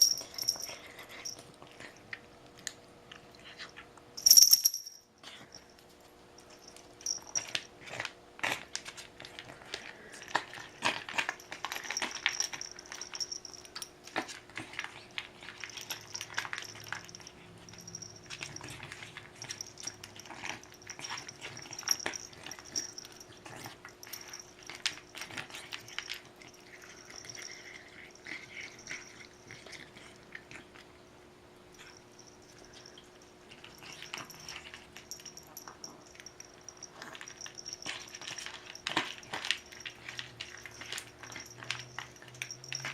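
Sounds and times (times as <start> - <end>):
pet eating with crunching: 0.0 - 4.2, 5.1 - 42.9.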